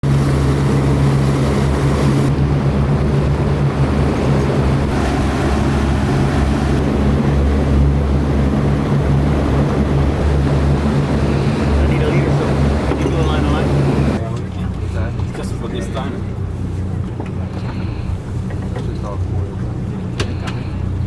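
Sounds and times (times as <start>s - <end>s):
outboard motors droning: 0.0s - 21.0s
wind and water wash: 0.0s - 21.0s.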